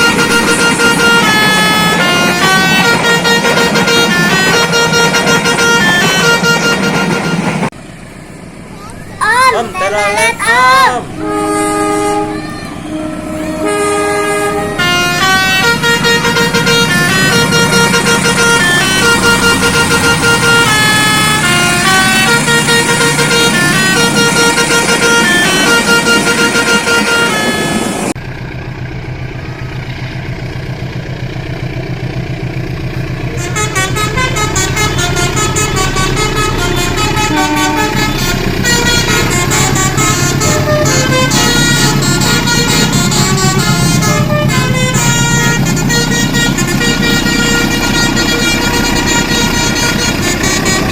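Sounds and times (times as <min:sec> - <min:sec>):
multi-tone musical horn: 0:00.0 - 0:07.5, 0:09.5 - 0:28.0, 0:33.4 - 0:50.9
train rumble: 0:00.0 - 0:50.9.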